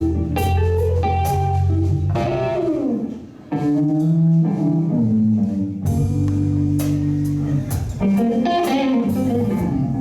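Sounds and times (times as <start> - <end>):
bass line: 0.0 - 10.0
electric guitar: 0.0 - 10.0
live blues band playing: 0.0 - 10.0.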